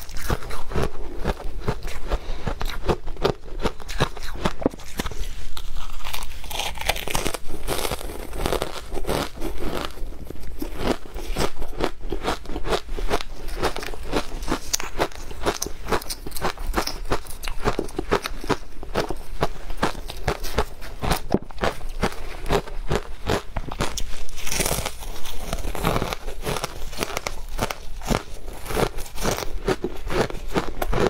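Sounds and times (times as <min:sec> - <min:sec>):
mouth crunching and chewing ice: 0:00.0 - 0:31.0.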